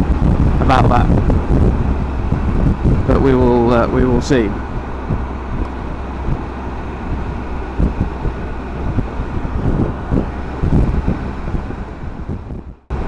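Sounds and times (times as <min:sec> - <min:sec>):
motorcycle engine hum: 0:00.0 - 0:13.0
wind buffeting microphone: 0:00.0 - 0:13.0.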